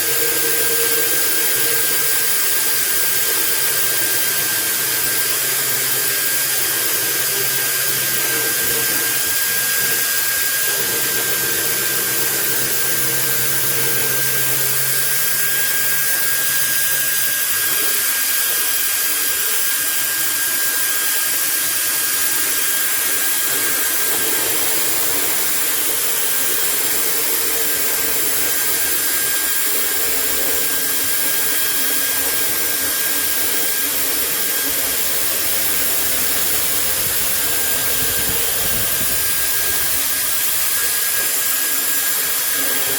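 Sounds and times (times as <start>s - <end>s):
electric drill motor whirring: 0.0s - 42.9s.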